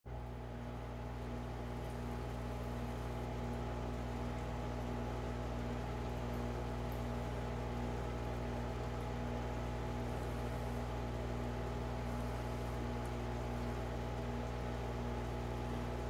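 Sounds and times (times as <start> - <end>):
aquarium pump humming: 0.1 - 16.0.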